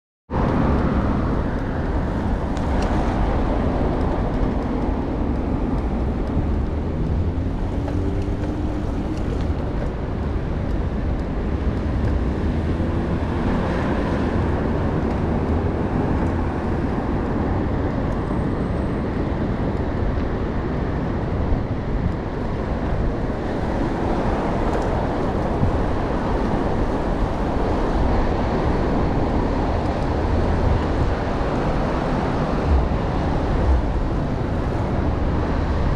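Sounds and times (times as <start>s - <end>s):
road noise in traffic: 0.3s - 35.9s.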